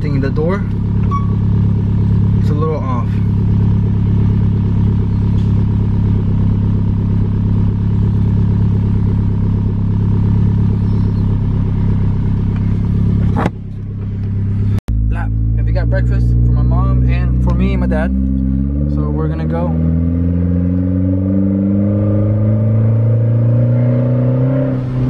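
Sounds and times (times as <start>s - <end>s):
car engine idling: 0.0s - 20.1s.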